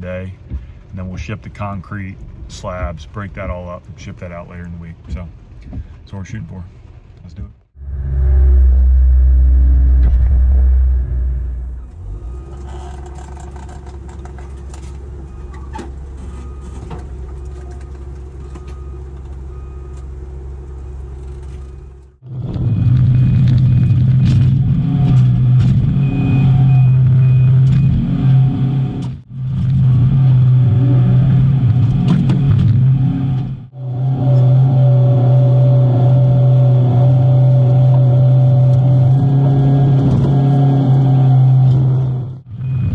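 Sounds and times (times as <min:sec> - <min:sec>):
excavator diesel engine running: 0:07.8 - 0:42.9.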